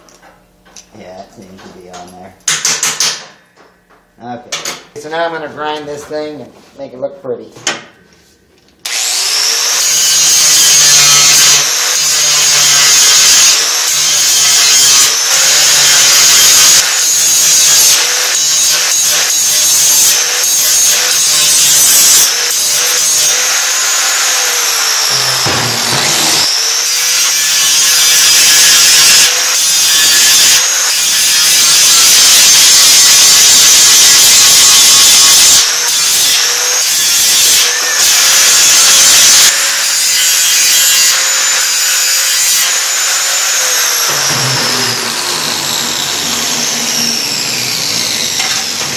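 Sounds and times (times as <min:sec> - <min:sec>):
grinder grinding metal: 0:08.8 - 0:48.9.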